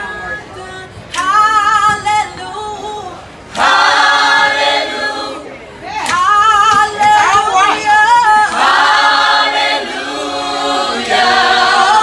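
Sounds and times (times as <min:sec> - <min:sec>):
choir singing a cappella: 0:00.0 - 0:12.0.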